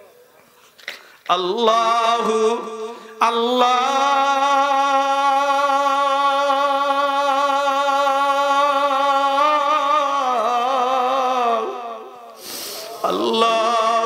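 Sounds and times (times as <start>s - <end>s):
man singing a long note: 1.3s - 14.0s.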